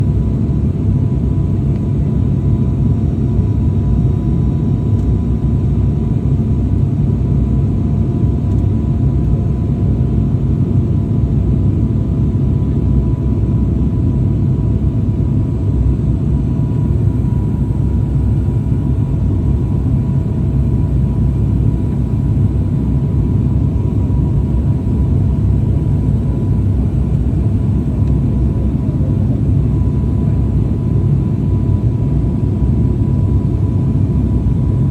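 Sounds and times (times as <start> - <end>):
aircraft engine rumble: 0.0 - 34.9.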